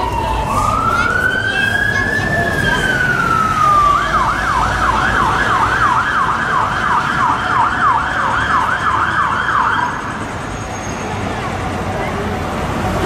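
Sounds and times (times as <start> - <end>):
ambulance siren: 0.0 - 10.8.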